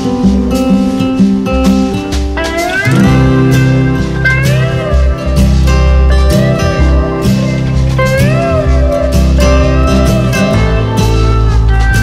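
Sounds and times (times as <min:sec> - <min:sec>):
bass line: 0:00.0 - 0:12.0
guitar with sliding notes: 0:00.0 - 0:12.0.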